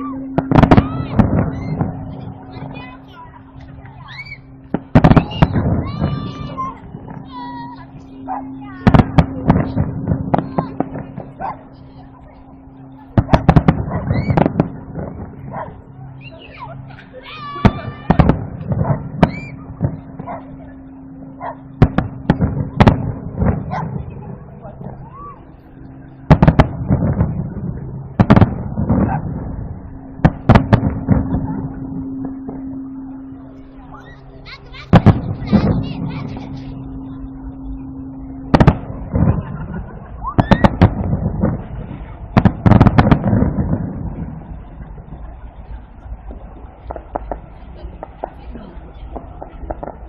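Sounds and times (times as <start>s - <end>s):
echoing rumble: 0.0s - 50.0s
fireworks bangs: 0.0s - 50.0s.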